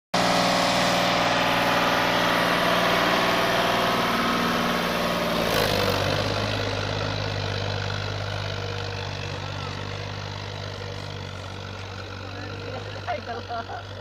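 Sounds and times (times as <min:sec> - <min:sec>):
tractor diesel engine running: 0:00.2 - 0:14.0.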